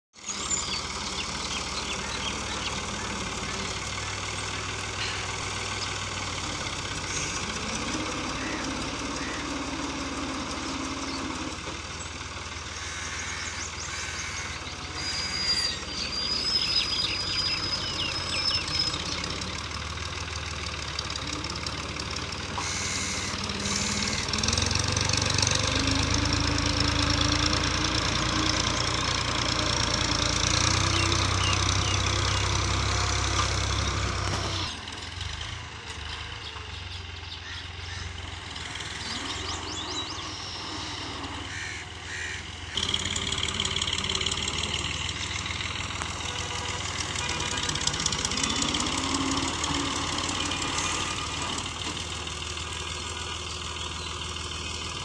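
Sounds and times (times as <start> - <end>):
tractor diesel engine under load: 0.1 - 55.0.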